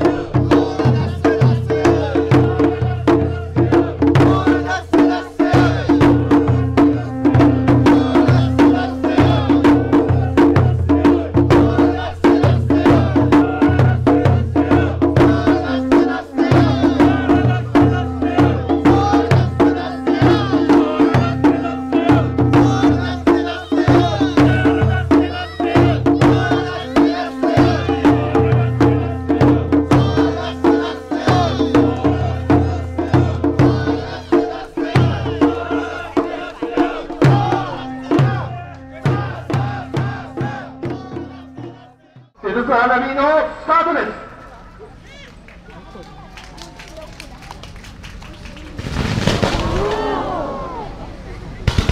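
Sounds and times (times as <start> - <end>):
low drum strokes: 0.0 - 42.4
voices: 0.0 - 51.9.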